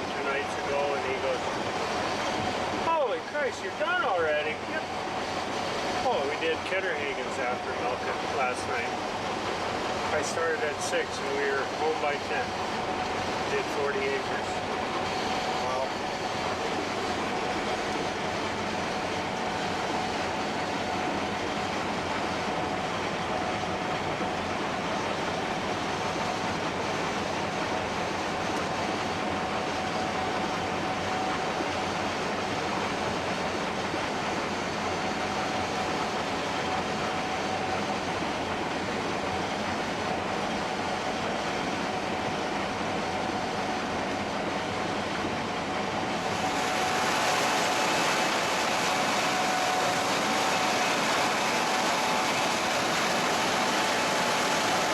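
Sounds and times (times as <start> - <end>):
combine harvester drone with whine: 0.0 - 54.9.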